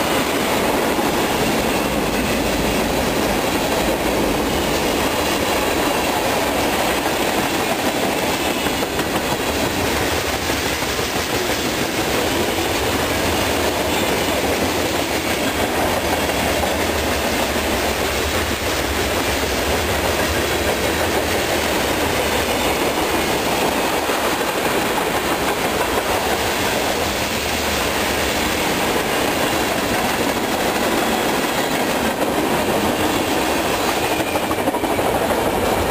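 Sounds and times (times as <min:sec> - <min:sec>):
train wheels on rails: 0:00.0 - 0:35.9.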